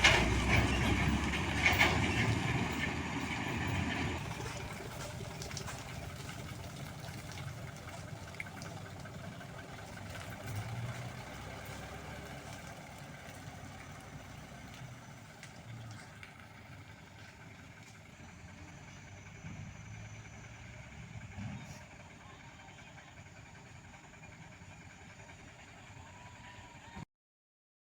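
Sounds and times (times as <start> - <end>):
truck engine rumbling: 0.0 - 27.0.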